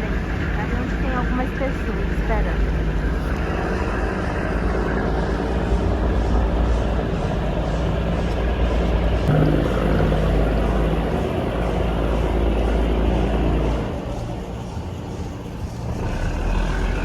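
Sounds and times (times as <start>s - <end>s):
boat diesel engine rumble: 0.0s - 17.0s.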